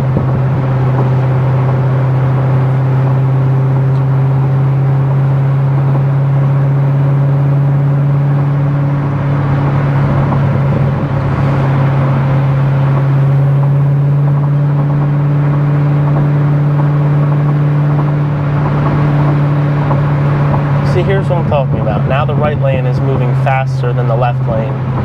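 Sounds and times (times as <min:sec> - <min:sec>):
car engine droning at cruise: 0:00.0 - 0:25.0.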